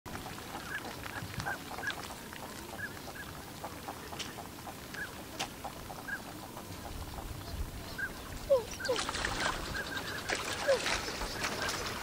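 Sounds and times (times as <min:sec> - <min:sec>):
ducks calling with whistled notes: 0:00.2 - 0:12.0.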